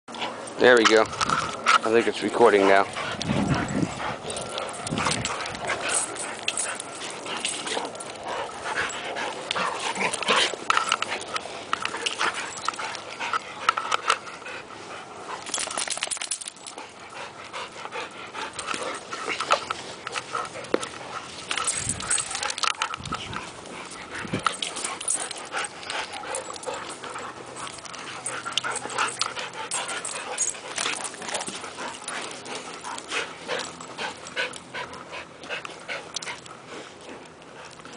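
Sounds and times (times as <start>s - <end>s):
dog panting: 0.1s - 37.9s
dogs scuffling: 0.2s - 37.9s.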